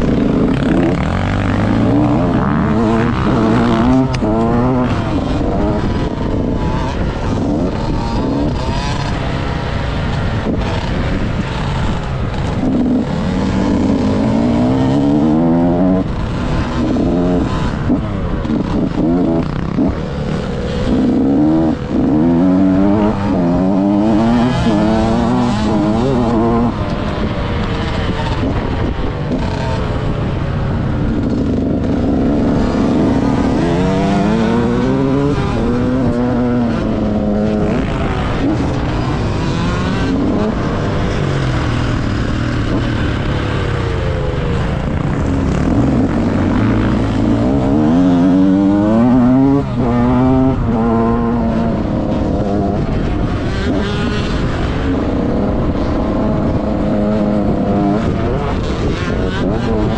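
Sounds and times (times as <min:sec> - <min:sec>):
two-stroke motorbike engine revving: 0:00.0 - 0:59.9.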